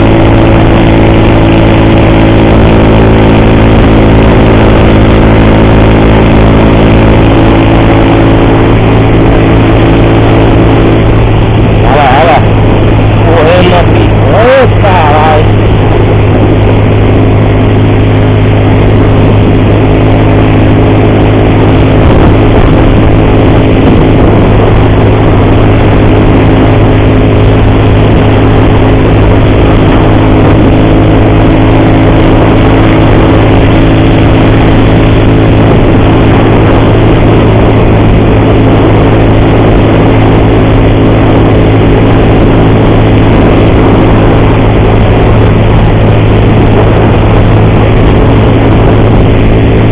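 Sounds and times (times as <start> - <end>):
motorcycle engine running steadily: 0.0 - 49.9.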